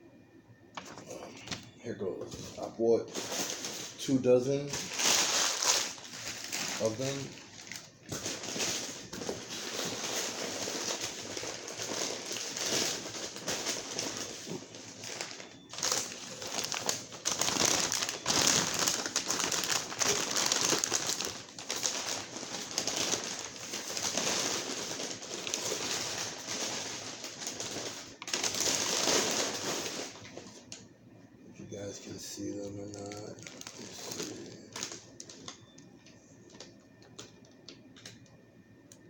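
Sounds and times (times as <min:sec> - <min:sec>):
plastic wrapping crinkling: 0:00.8 - 0:30.8, 0:31.9 - 0:38.3.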